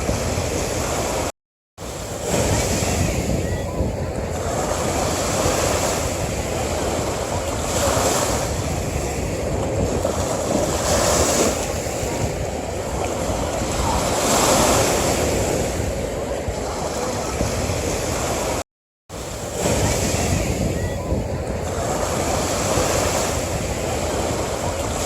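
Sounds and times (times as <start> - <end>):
ocean surf washing onto beach: 0.0 - 25.0.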